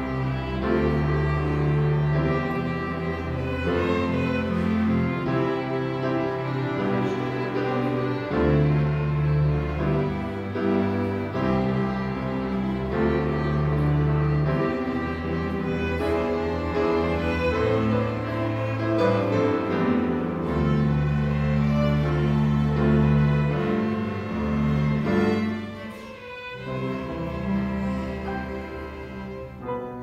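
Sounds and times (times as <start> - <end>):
string orchestra playing: 0.0 - 30.0.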